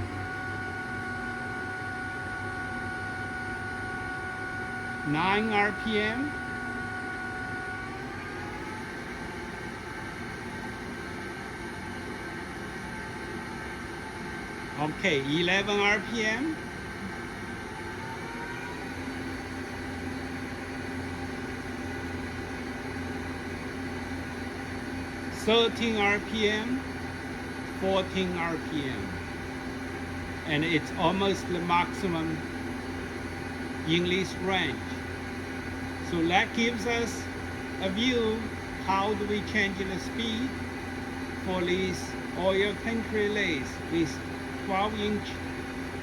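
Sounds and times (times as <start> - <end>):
lathe spindle drive electric whine: 0.0 - 46.0
low motor hum: 0.0 - 46.0.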